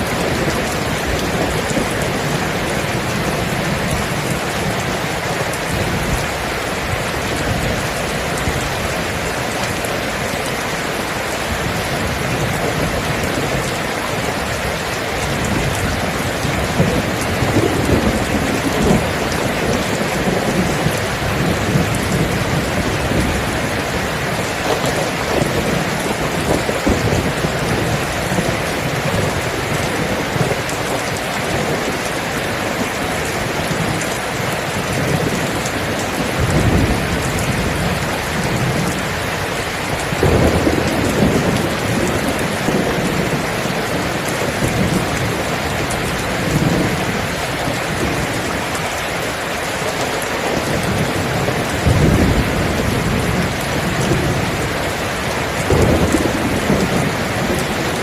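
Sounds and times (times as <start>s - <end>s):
thunder rumbling: 0.0s - 48.9s, 50.4s - 58.0s
heavy rain: 0.0s - 58.0s.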